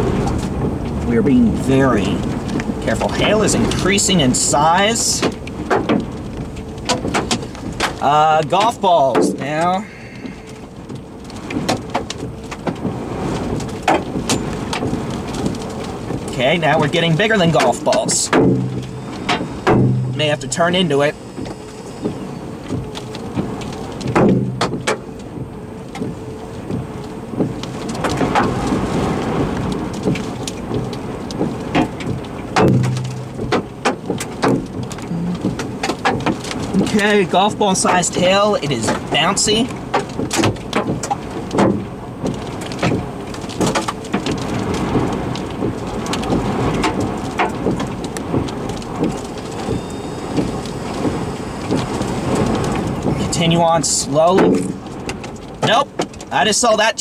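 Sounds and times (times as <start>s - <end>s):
rain rushing: 0.0s - 57.0s
hail knocking on vehicle: 2.0s - 57.0s.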